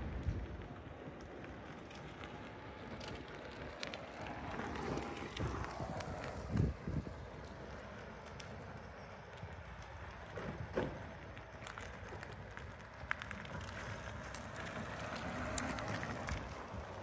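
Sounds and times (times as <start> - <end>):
tyre noise on concrete: 0.0 - 17.0.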